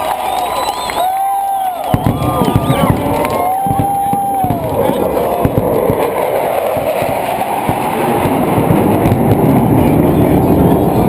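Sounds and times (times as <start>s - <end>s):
jet aircraft rumble: 1.9s - 11.0s.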